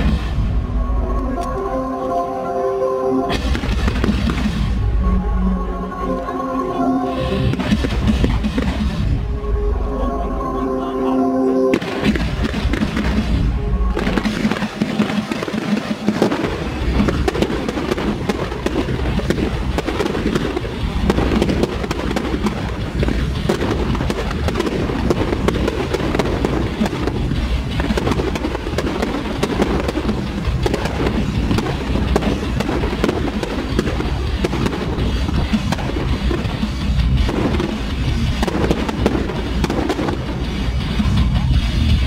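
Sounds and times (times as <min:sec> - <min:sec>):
fireworks bangs and crackling: 0:00.0 - 0:00.7, 0:03.3 - 0:05.0, 0:07.3 - 0:09.2, 0:11.7 - 0:42.0
music playing: 0:00.0 - 0:42.0.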